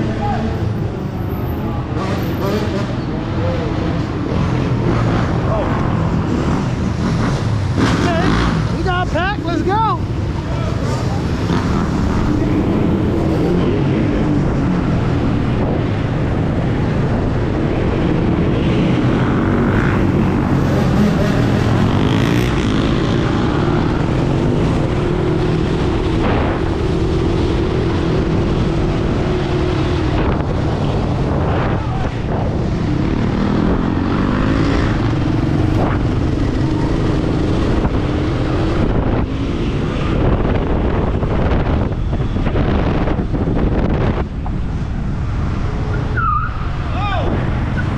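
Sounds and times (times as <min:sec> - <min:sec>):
wind rushing over microphone: 0:02.8 - 0:47.9.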